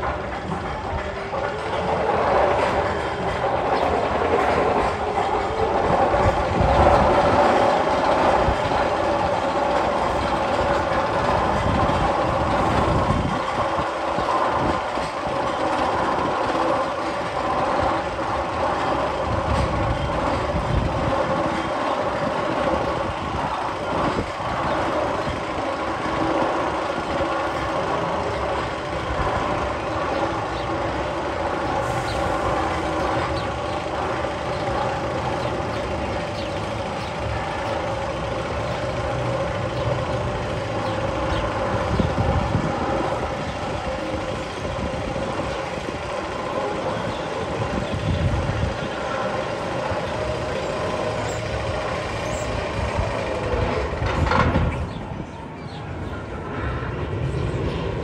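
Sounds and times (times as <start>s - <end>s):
mechanical rumble with hum: 0.0s - 58.0s.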